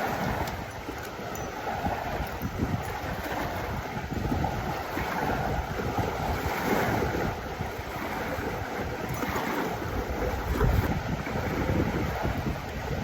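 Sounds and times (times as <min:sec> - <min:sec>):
lake water washing: 0:00.0 - 0:13.0
wind buffeting microphone: 0:00.0 - 0:13.0.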